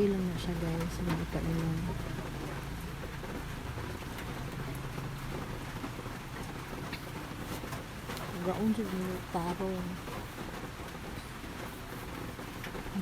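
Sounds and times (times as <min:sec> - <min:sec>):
steady rain-like hiss: 0:00.0 - 0:13.0.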